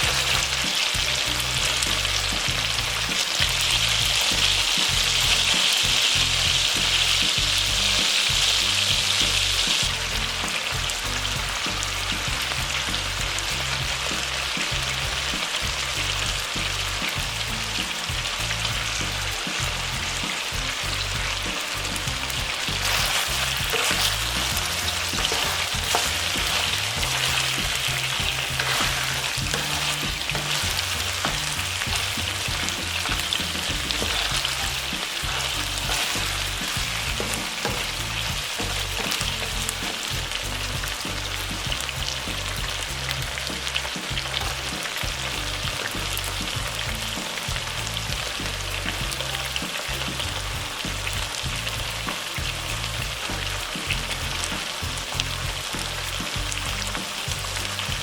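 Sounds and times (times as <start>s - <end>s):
food frying in hot oil: 0.0s - 58.0s.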